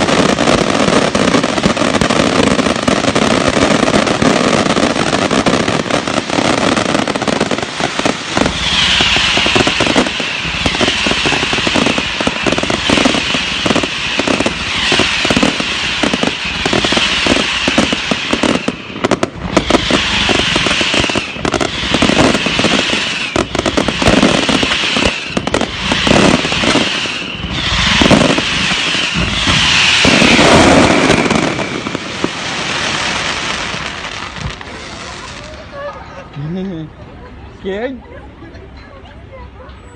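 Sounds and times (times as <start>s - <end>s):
high falling firework whistle: 0.0s - 35.1s
fireworks bangs and crackles: 0.0s - 35.8s.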